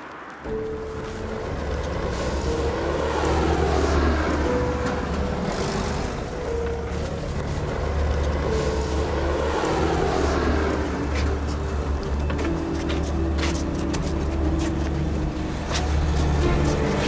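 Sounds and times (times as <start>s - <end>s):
car engine idling: 0.4s - 17.0s
music: 0.4s - 17.0s.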